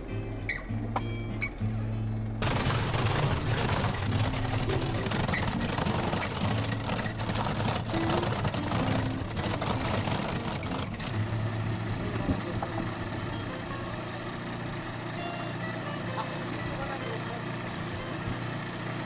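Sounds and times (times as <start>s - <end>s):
truck engine running: 1.7s - 19.0s.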